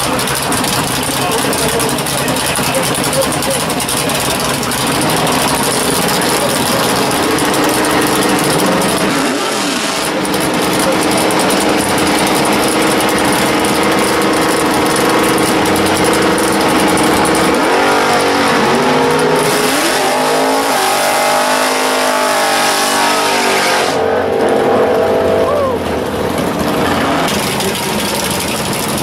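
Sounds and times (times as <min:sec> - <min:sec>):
car engine revving: 0:00.0 - 0:29.0
spinning tyres hissing: 0:00.0 - 0:29.0.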